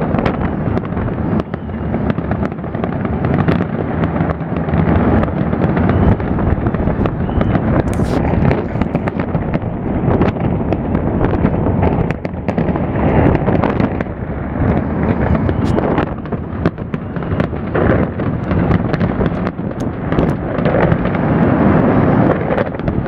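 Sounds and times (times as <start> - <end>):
fireworks booming: 0.0 - 23.0
fireworks crackling bangs: 0.0 - 23.0.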